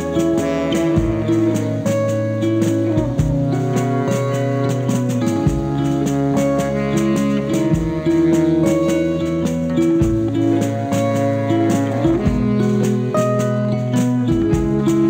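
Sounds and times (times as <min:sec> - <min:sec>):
bass line: 0:00.0 - 0:15.0
electric guitar: 0:00.0 - 0:15.0
steady drum beat: 0:00.0 - 0:15.0.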